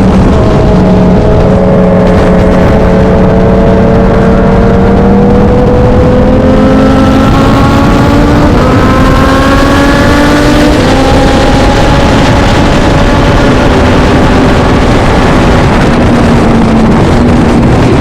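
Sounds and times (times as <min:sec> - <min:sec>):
loud rushing noise: 0:00.0 - 0:18.0
racing motorcycle engine: 0:00.0 - 0:18.0.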